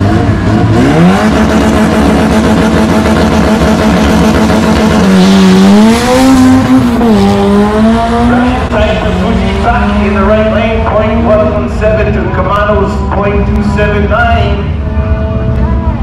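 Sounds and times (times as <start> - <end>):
drag car engine at full throttle: 0.0 - 16.0.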